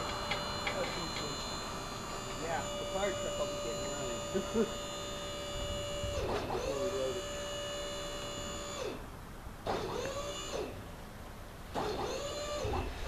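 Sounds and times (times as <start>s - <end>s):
electric winch whining: 0.0s - 10.8s, 11.7s - 13.0s.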